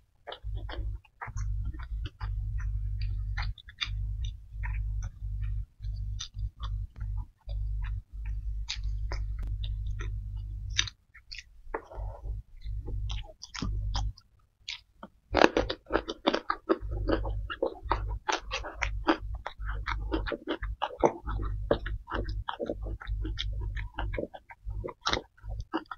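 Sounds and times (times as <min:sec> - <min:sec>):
wet chewing and mouth clicks: 0:00.2 - 0:25.9.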